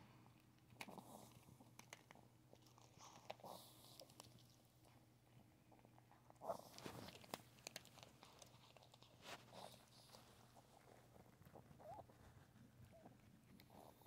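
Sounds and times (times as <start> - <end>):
dog chewing treat: 0.6 - 12.1.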